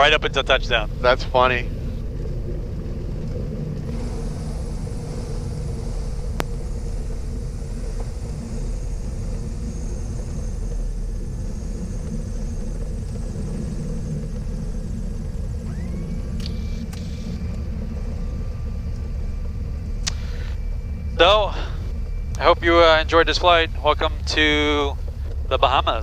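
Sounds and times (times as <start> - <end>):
twin piston engines droning: 0.0 - 26.0.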